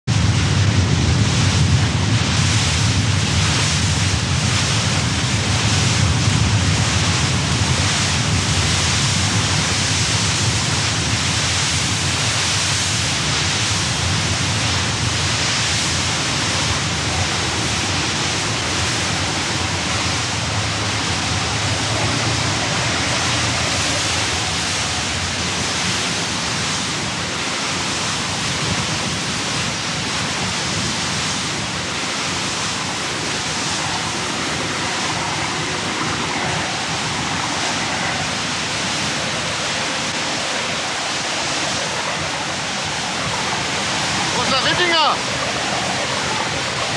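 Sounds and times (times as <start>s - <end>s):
rushing wind: 0.0s - 46.9s
water rushing: 0.1s - 46.9s.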